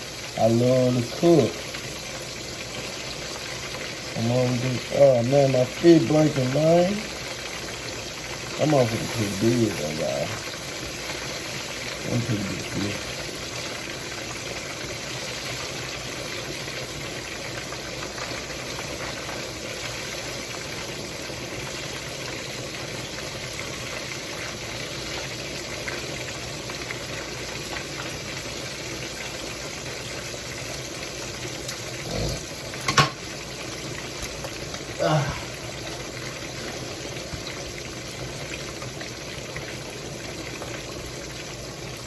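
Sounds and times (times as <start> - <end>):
fish sizzling in hot oil: 0.0 - 42.0.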